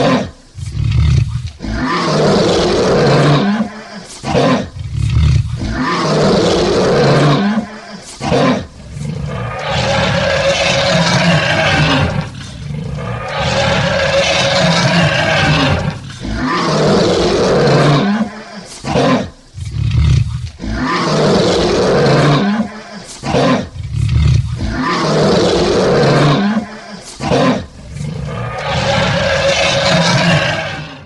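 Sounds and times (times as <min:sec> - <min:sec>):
lion roaring: 0:00.0 - 0:31.0.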